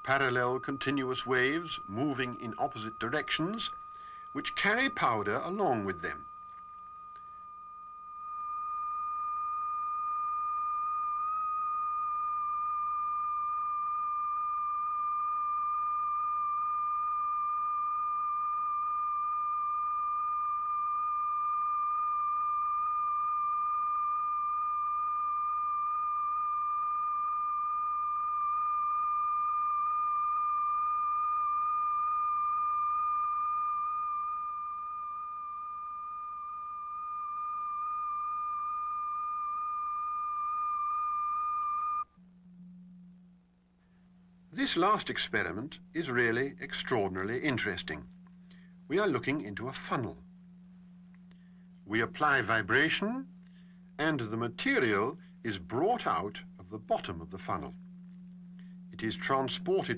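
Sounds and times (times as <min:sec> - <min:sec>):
high-pitched electronic sine tone: 0:00.0 - 0:59.9.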